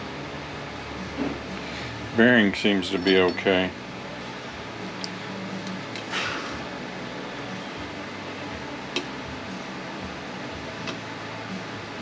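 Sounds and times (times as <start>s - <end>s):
background hiss and hum: 0.0s - 12.0s.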